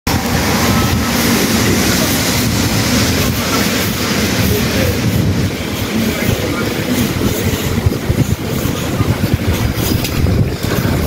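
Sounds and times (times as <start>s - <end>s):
wind and rain rushing: 0.1s - 11.0s.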